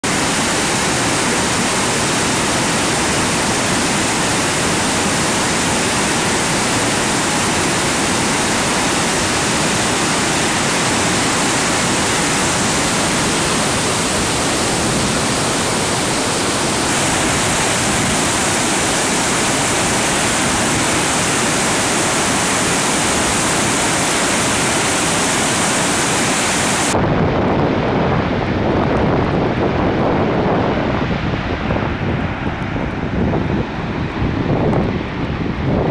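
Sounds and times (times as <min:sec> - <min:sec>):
roar of river rapids: 0:00.0 - 0:35.9.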